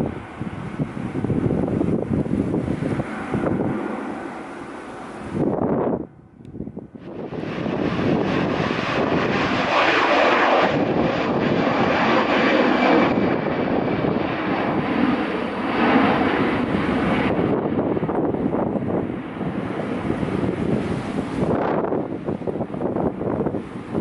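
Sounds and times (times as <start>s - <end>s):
airliner engines at takeoff: 0.0s - 24.0s.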